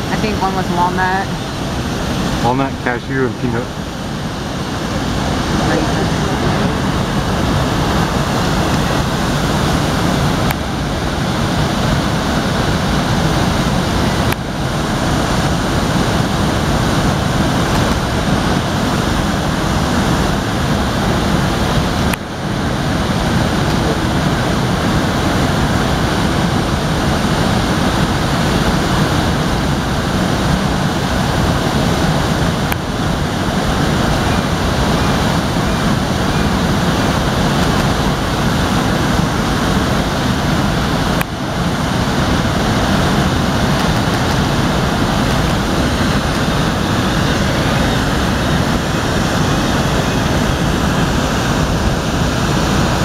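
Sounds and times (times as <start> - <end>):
fast-flowing river rushing: 0.0 - 53.0.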